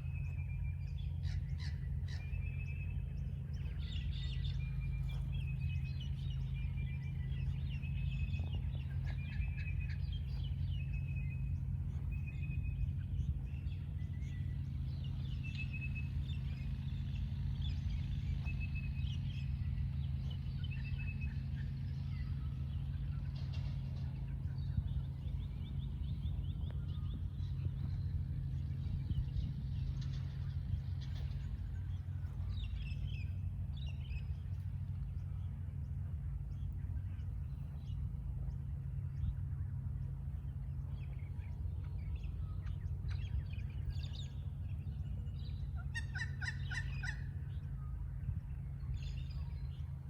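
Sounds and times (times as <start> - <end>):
birds chirping: 0.0 - 50.0
steady low rumble: 0.0 - 50.0.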